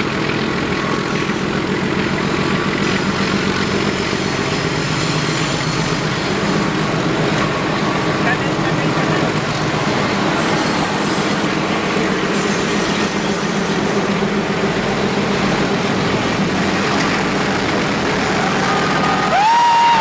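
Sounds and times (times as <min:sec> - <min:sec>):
diesel locomotive engine drone: 0:00.0 - 0:20.0
train wheels rumbling on rails: 0:00.0 - 0:20.0.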